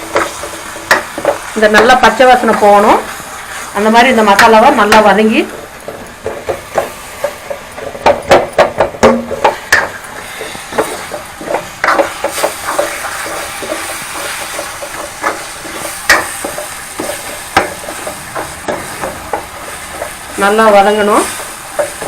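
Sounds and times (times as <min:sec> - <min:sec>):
spatula scraping a pan: 0:00.0 - 0:03.8, 0:05.6 - 0:22.0
masala sizzling in oil: 0:00.0 - 0:22.0.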